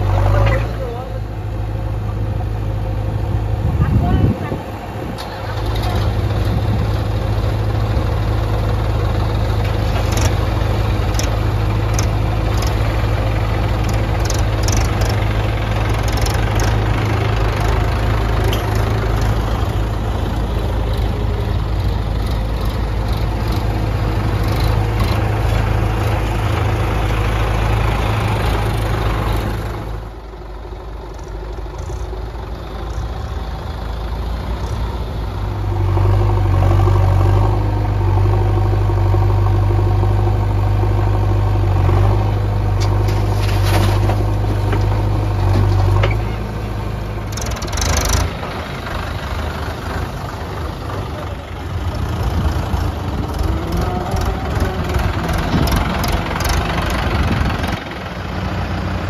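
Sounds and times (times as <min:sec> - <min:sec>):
diesel tractor engine idling: 0:00.0 - 0:59.0.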